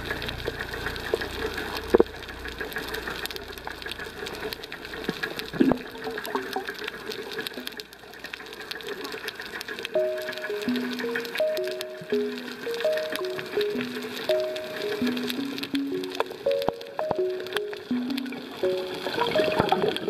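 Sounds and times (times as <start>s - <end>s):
underwater crackle of clicks: 0.0s - 20.0s.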